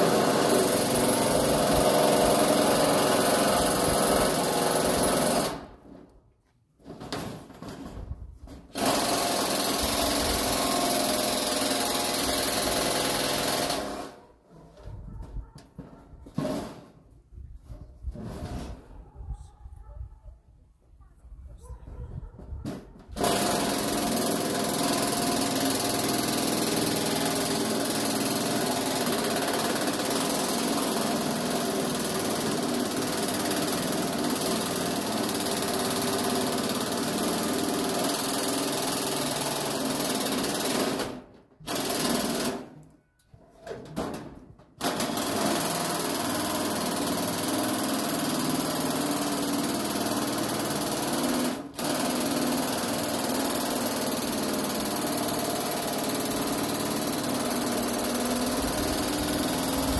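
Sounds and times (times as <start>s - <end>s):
power tool rattling: 0.0s - 6.1s, 6.8s - 14.2s, 22.7s - 42.9s, 43.8s - 59.9s.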